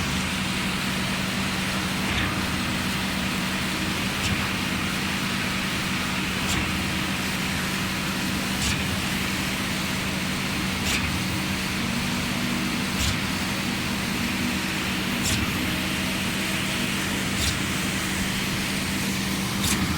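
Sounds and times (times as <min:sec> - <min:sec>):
concrete pump running: 0:00.0 - 0:19.9.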